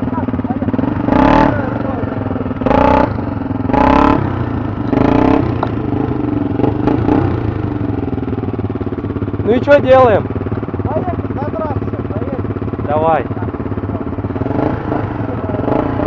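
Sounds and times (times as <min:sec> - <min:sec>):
motorcycle engine idling: 0:00.0 - 0:16.0
motorcycle throttle blips: 0:00.0 - 0:16.0.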